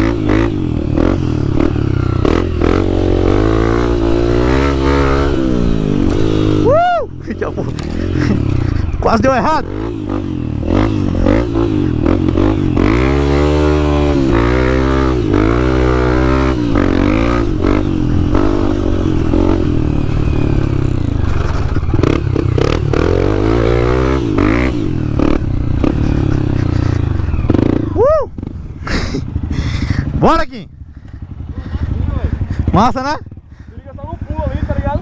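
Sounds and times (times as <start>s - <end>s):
bike rattling: 0.0s - 30.1s
dirt bike engine revving: 0.0s - 35.0s.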